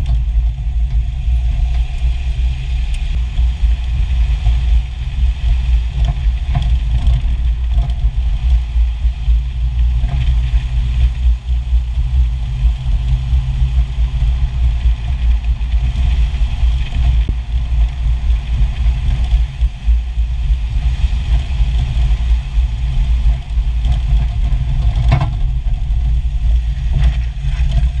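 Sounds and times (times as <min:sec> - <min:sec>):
jeep engine rumbling: 0:00.0 - 0:28.0.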